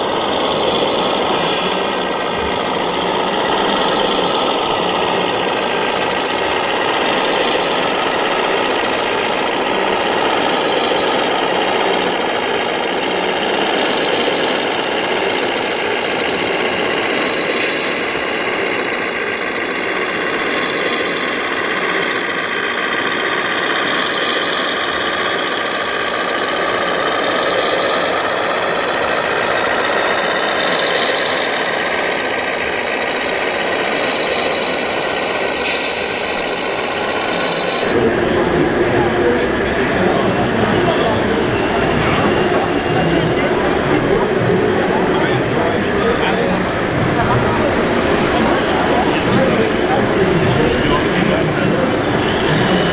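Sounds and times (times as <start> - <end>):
electric motors whirring: 0.0 - 52.9.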